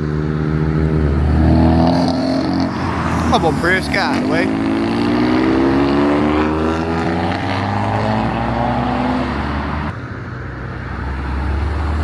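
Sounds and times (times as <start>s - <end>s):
car engine accelerating: 0.0s - 12.0s
low steady engine drone: 0.0s - 12.0s.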